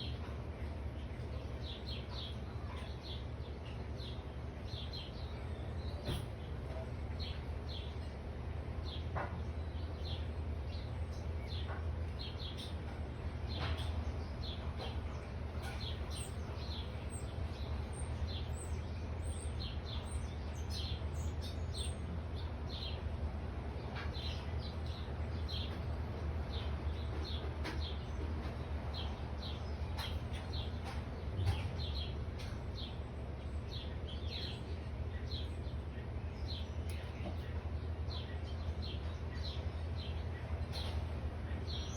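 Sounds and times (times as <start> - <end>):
songbirds chirping: 0.0 - 41.9
steady low background hum: 0.0 - 41.9.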